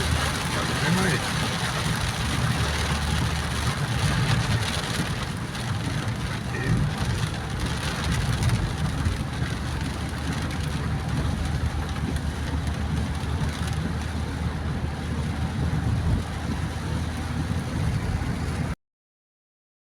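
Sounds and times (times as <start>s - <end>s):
water and rain hissing: 0.0s - 18.7s
car engine and tyres rumbling: 0.0s - 18.8s.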